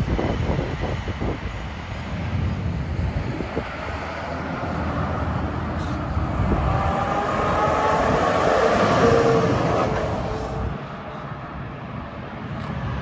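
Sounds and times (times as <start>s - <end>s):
heavy vehicle passing: 0.0s - 13.0s.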